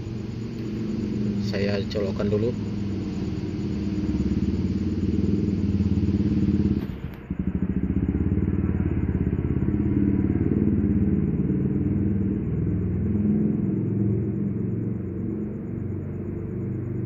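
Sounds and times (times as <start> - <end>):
engine rumble with pulsing beat: 0.0 - 17.0.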